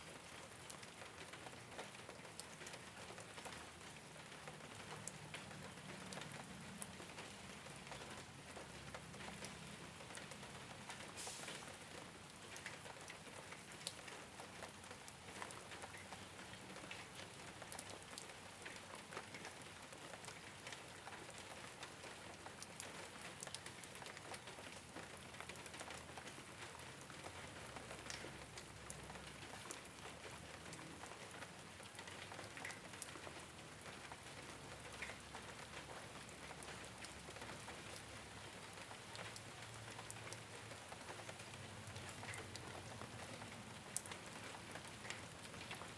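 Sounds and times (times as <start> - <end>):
rain falling on rooftop: 0.0 - 45.9.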